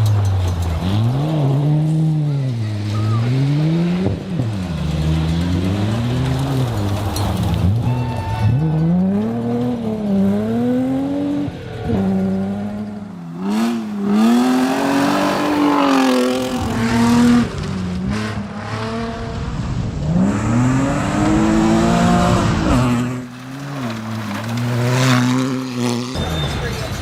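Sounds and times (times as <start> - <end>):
rally car engine revving: 0.0 - 27.0.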